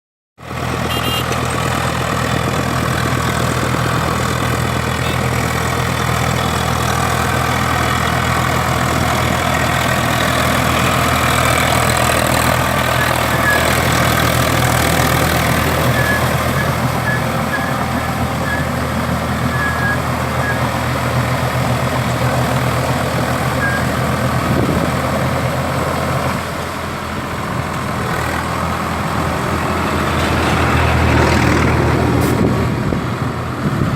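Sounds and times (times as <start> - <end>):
tractor diesel engine running: 0.4 - 33.9.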